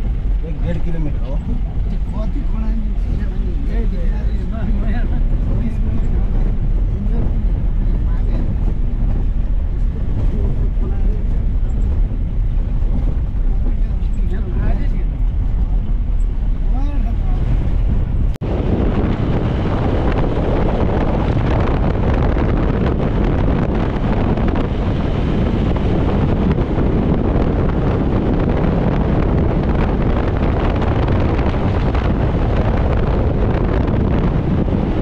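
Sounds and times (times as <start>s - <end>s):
vehicle road and engine noise: 0.0s - 35.0s
wind buffeting microphone: 0.0s - 35.0s.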